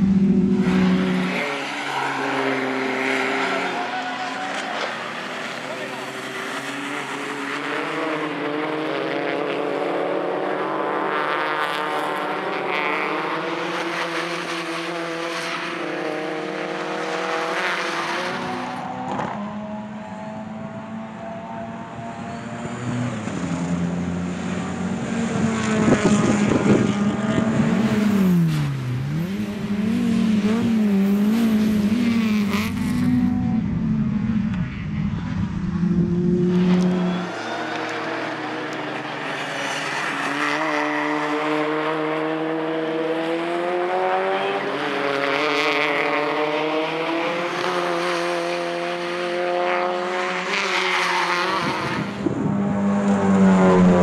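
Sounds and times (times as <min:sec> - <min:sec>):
race car engines accelerating: 0:00.0 - 0:54.0.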